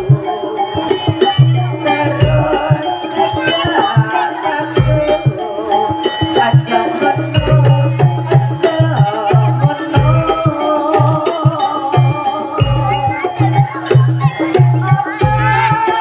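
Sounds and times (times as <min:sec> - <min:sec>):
drum-led gamelan ensemble: 0:00.0 - 0:16.0.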